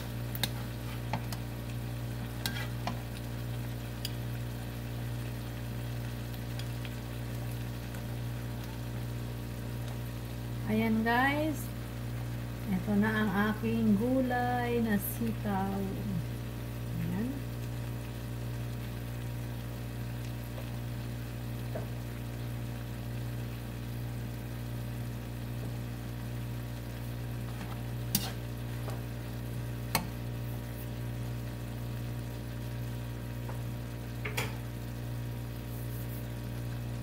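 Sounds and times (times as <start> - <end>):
food sizzling in a wok: 0.0 - 37.0
steady low hum: 0.0 - 37.0.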